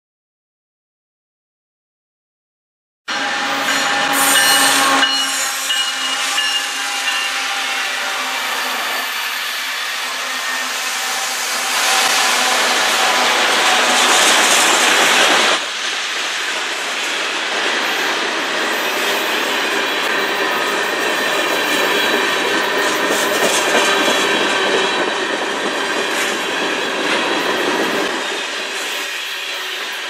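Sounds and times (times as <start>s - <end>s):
diesel locomotive passing: 3.1s - 30.0s
train wheels rolling on rails: 3.1s - 30.0s.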